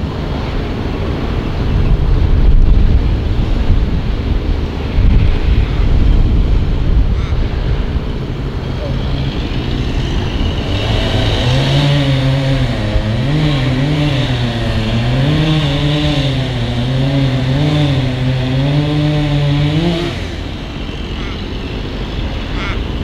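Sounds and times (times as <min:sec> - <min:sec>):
diesel locomotive engine working: 0:00.0 - 0:23.0.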